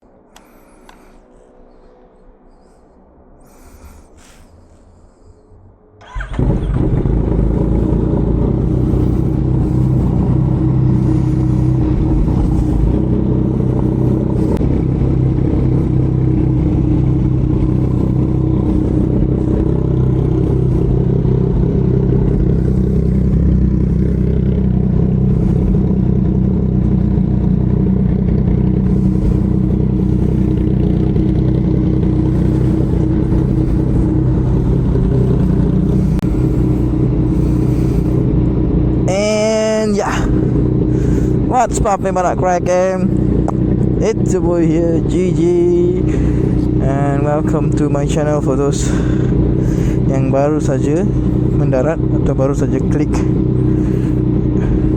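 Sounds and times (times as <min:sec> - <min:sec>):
motorcycle engine idling: 0:06.0 - 0:54.9.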